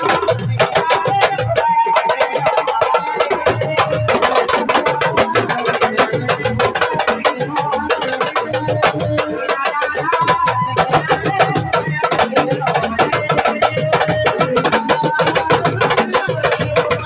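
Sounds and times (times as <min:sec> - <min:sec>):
drums played fast: 0:00.0 - 0:17.0.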